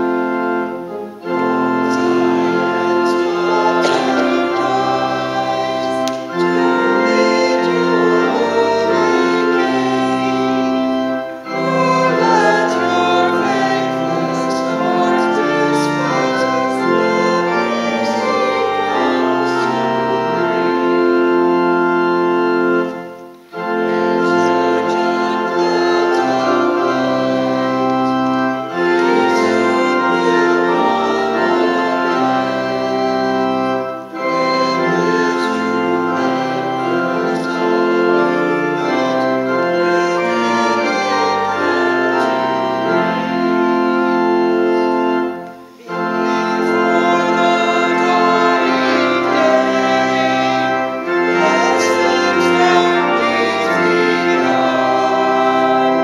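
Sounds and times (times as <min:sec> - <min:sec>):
church organ chords: 0:00.0 - 0:56.0
congregation singing: 0:00.0 - 0:56.0.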